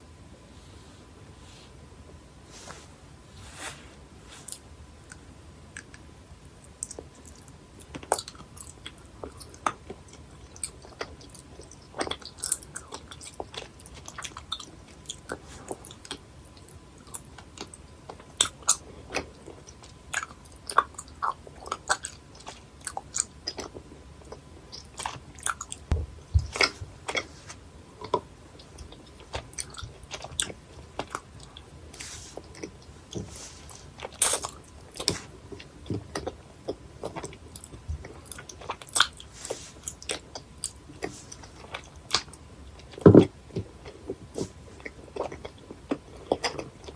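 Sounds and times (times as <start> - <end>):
chewing gummy candies: 6.7 - 46.9.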